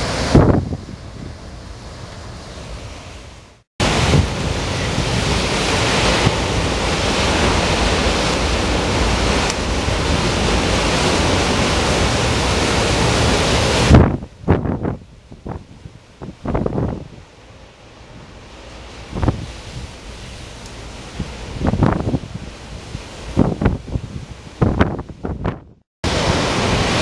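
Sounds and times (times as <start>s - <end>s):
wind buffeting microphone: 0.0s - 3.2s, 3.8s - 17.3s, 18.8s - 27.0s
heavy surf breaking: 0.0s - 27.0s.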